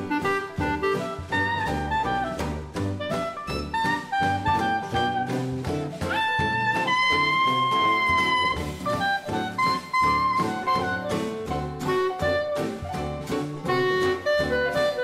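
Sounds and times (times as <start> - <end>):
jazz music: 0.0 - 15.0.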